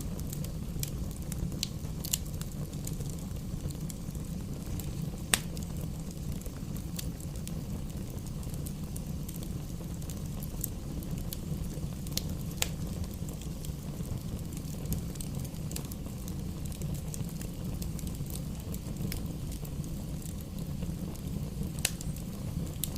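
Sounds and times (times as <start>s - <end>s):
fire crackling and popping: 0.0s - 22.9s
fire rumbling: 0.0s - 22.9s.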